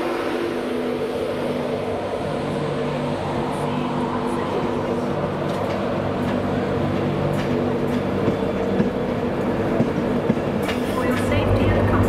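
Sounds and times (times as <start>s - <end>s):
train coaches rolling drone: 0.0s - 12.0s.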